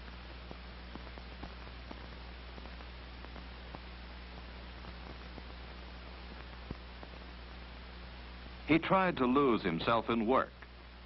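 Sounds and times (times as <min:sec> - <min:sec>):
faint clicks and crackle: 0:00.0 - 0:08.6, 0:10.5 - 0:11.0
mains hum and hiss: 0:00.0 - 0:11.0.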